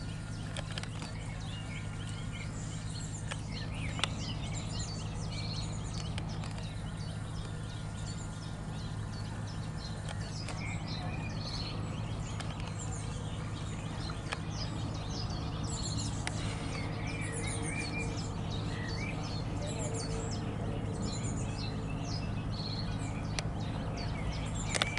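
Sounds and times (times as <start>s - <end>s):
small birds chirping: 0.0s - 24.9s
steady low hum: 0.0s - 24.9s.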